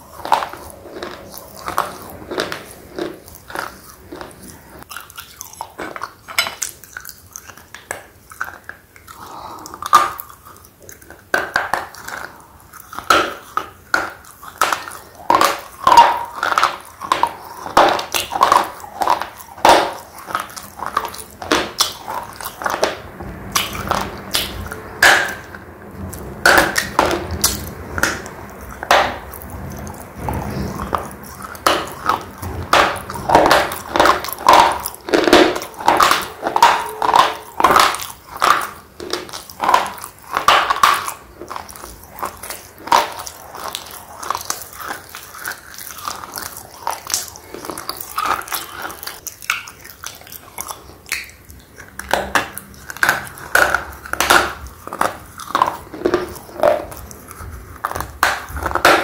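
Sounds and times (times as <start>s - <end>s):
pencil being crunched and chewed: 0.0s - 59.0s.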